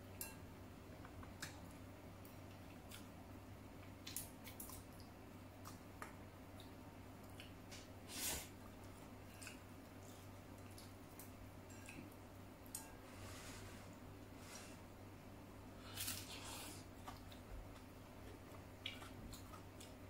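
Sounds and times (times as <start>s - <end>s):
soft chewing: 1.0s - 14.9s, 15.6s - 20.0s.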